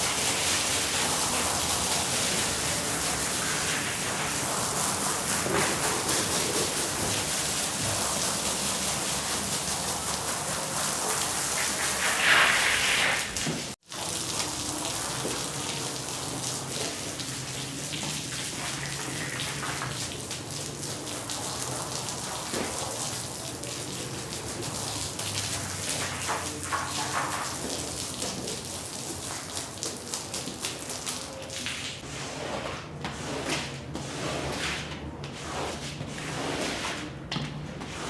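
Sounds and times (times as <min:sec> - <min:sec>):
water spraying onto wet rug: 0:00.0 - 0:32.1.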